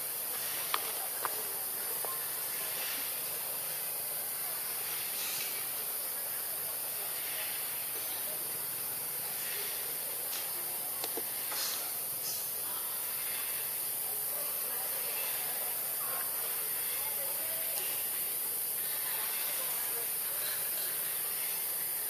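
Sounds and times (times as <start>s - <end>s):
high-pitched outdoor hiss: 0.0s - 22.0s.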